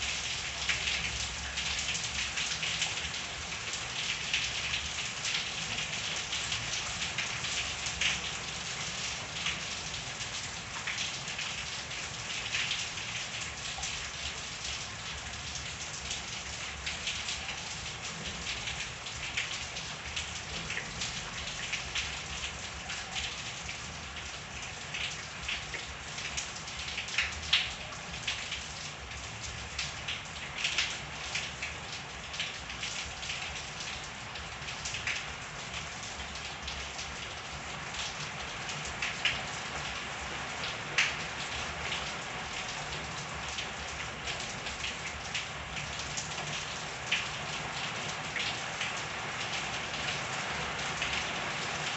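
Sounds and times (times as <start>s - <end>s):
steady rain patter: 0.0s - 51.9s.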